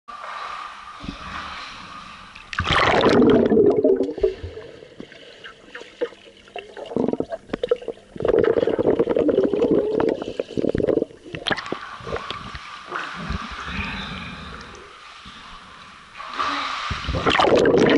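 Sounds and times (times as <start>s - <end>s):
underwater bubbling: 0.2s - 17.9s.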